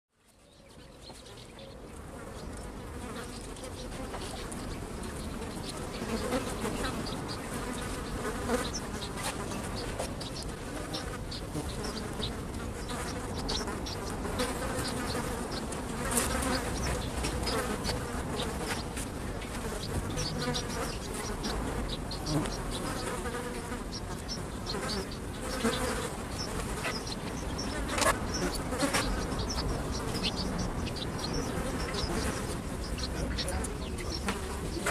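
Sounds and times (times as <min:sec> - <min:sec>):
flies buzzing: 0:01.0 - 0:34.9.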